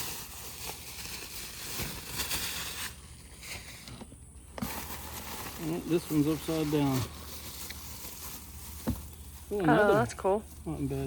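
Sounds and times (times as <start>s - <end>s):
rustling of unpacking: 0.0s - 10.0s.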